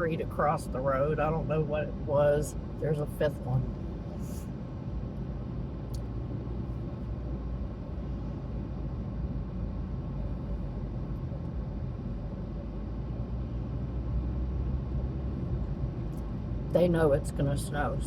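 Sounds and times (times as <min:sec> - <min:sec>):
car engine rumble: 0:00.0 - 0:18.0
tyre road noise: 0:00.0 - 0:18.0.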